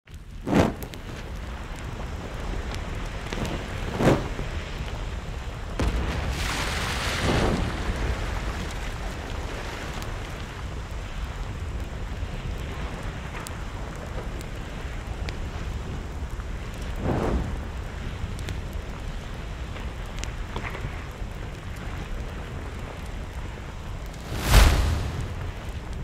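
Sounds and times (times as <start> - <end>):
lava fountaining rumble and hiss: 0.1 - 26.0.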